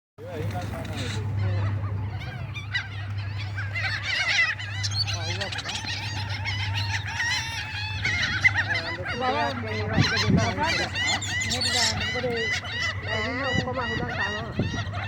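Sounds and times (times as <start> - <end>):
low hum: 0.2 - 13.1
flock of birds chirping: 0.2 - 15.0.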